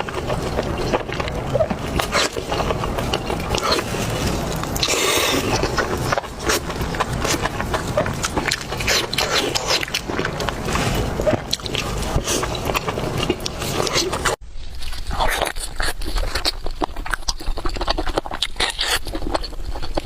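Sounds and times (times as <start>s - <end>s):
close chewing and crunching: 0.0s - 20.0s.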